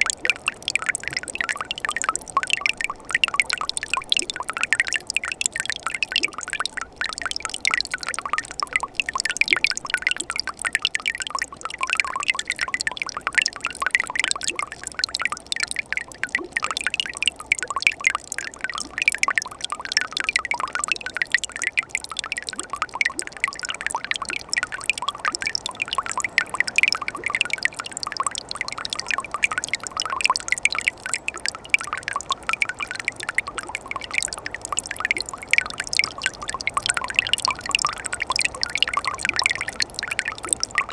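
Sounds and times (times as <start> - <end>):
stream water splashing over rocks: 0.0 - 40.9.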